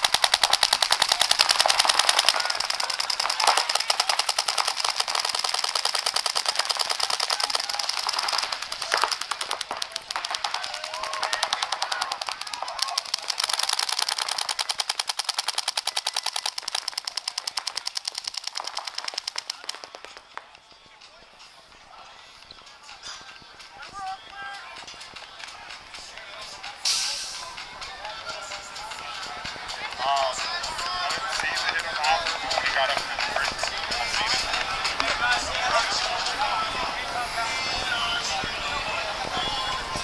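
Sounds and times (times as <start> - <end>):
paintball guns firing rapid pops: 0.0 - 25.8, 27.8 - 36.8.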